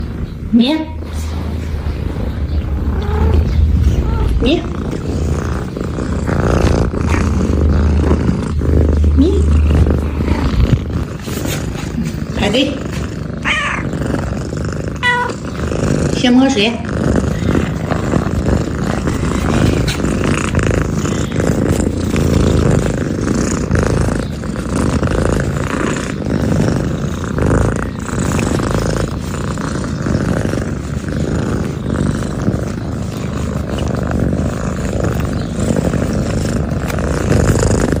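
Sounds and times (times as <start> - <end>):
kitten purring: 0.0 - 38.0.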